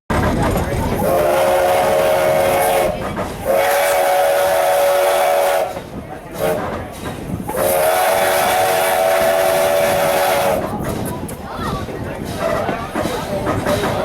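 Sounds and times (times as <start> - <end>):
steam hissing: 1.0 - 11.5, 12.1 - 14.0.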